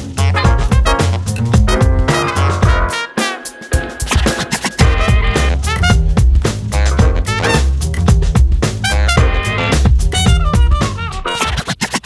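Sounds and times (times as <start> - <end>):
upbeat swing jazz music: 0.0 - 11.7.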